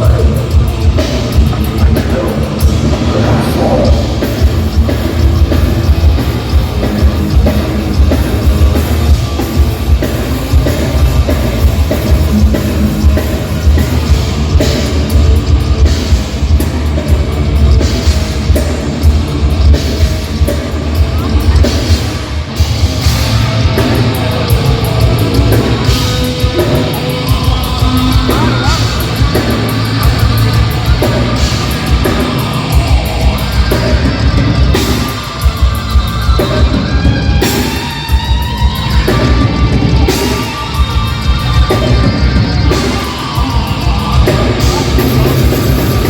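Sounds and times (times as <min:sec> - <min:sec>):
heavy metal band playing live: 0:00.0 - 0:46.0.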